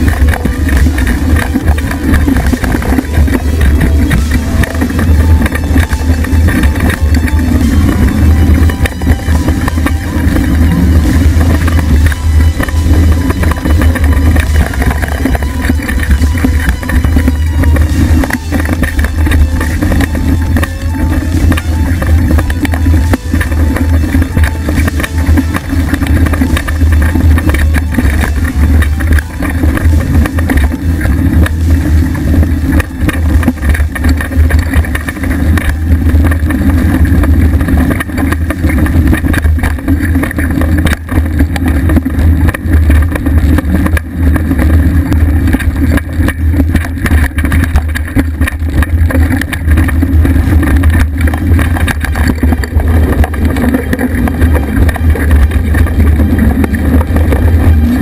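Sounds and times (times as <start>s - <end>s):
bike rattling and knocking: 0.0s - 58.0s
bike tyre noise on dirt: 0.0s - 58.0s
wind rumble on microphone: 0.0s - 58.0s.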